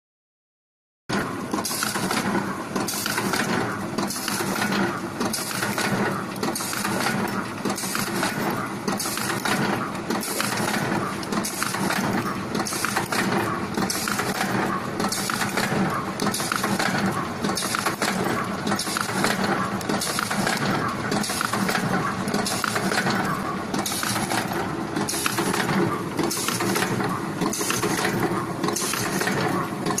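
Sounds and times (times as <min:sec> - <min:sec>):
machine running noise: 0:01.1 - 0:30.0
metal forming tools clacking: 0:01.1 - 0:30.0.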